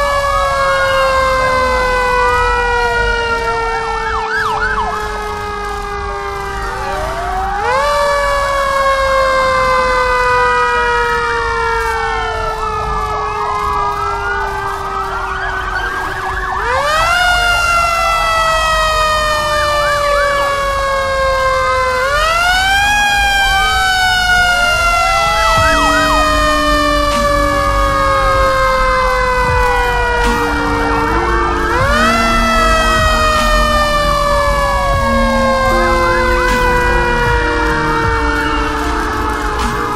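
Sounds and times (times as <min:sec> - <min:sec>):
emergency siren wailing: 0:00.0 - 0:39.9
second siren rise-and-fall wail: 0:00.0 - 0:39.9.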